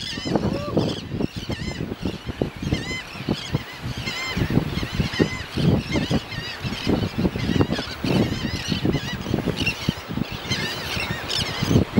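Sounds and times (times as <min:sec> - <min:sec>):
terns calling: 0:00.0 - 0:11.9.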